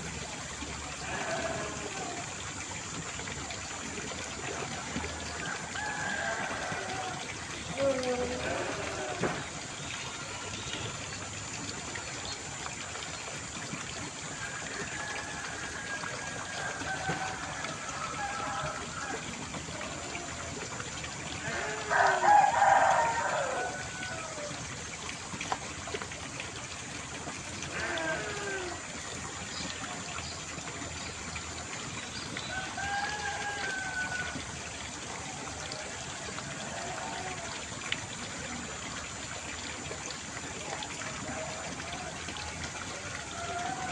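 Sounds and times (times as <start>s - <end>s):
running water trickling: 0.0s - 43.9s.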